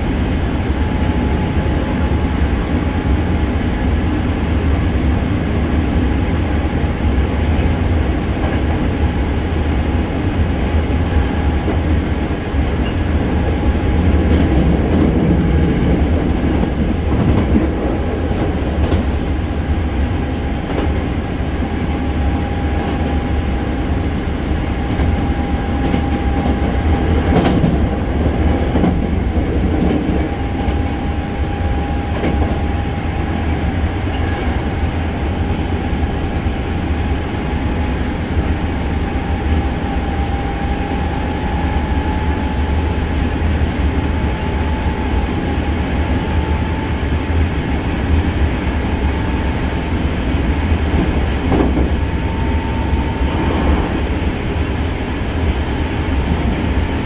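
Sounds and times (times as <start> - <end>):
train rumbling with whine: 0.0 - 57.0.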